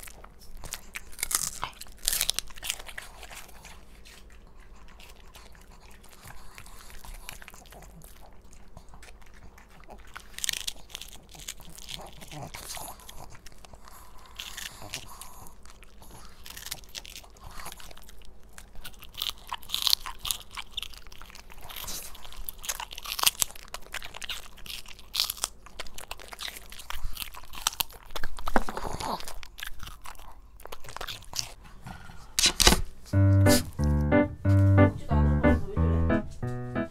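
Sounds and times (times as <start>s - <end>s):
dogs crunching celery: 0.0s - 34.8s.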